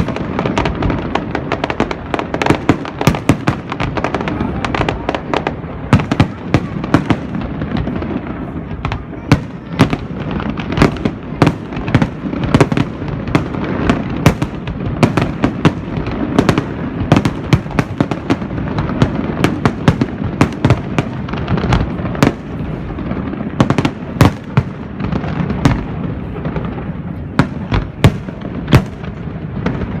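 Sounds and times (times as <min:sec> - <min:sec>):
crackling rumble: 0:00.0 - 0:30.0
firework bangs: 0:00.0 - 0:30.0.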